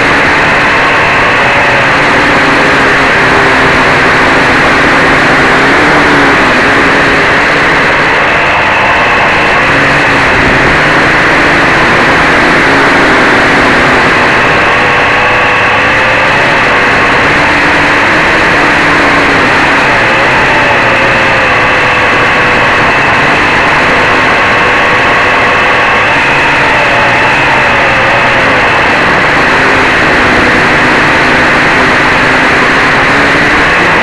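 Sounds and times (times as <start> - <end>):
quadcopter motors droning: 0.0 - 34.0.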